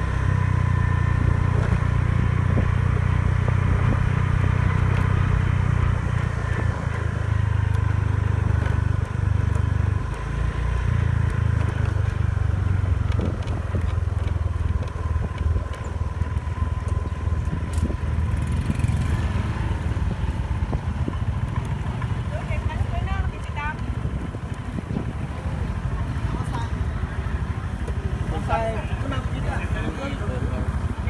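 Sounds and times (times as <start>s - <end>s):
motor scooter engine rumbling: 0.0s - 31.0s.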